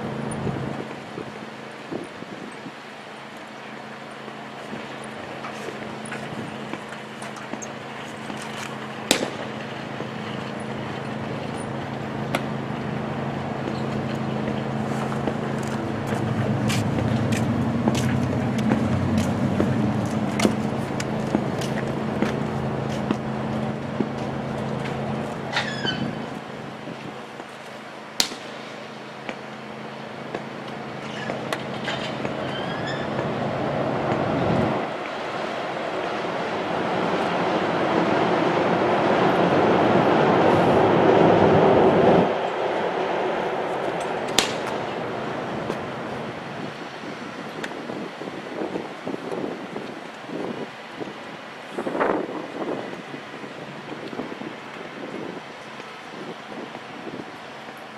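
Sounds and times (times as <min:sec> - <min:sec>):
engine hum: 0:00.0 - 0:57.9.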